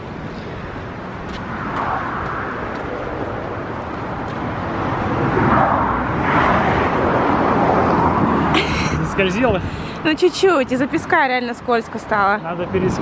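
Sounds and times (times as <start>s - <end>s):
highway traffic rushing: 0.0s - 13.0s.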